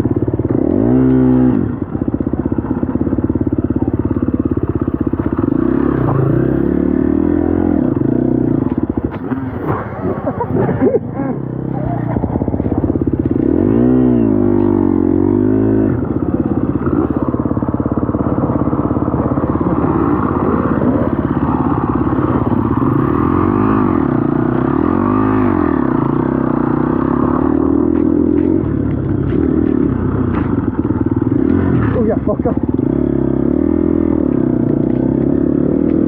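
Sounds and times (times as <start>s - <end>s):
dirt bike engine revving: 0.4s - 1.8s, 4.4s - 36.0s.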